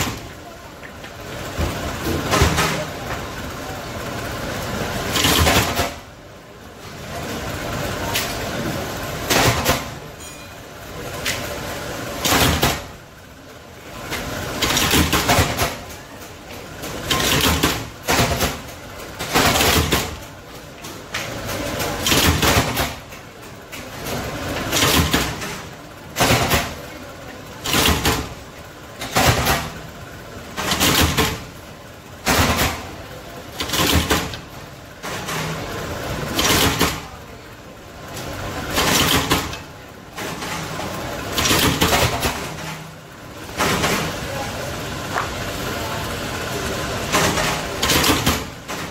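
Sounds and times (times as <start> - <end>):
motor and flywheel running: 0.0 - 48.9.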